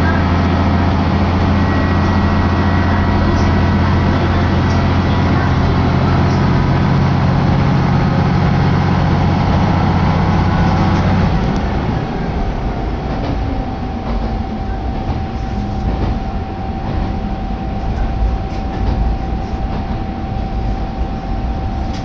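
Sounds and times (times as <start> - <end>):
railcar engine drone: 0.0 - 22.0
wheels running on rails: 0.0 - 22.0.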